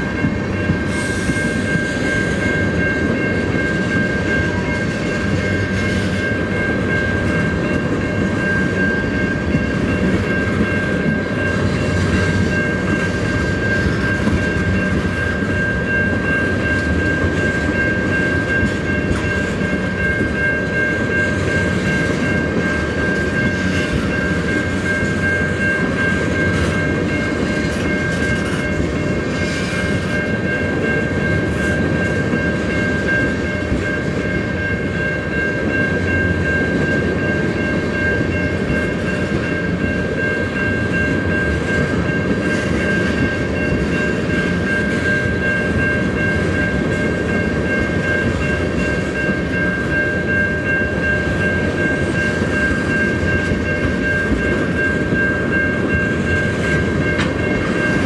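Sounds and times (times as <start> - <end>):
high ringing tone: 0.0 - 58.0
train wheels rumbling on rails: 0.0 - 58.0.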